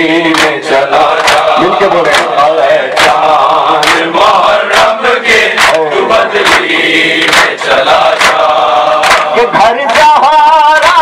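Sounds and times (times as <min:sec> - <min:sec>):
men chanting in unison: 0:00.0 - 0:11.0
rhythmic chest-beating: 0:00.0 - 0:11.0.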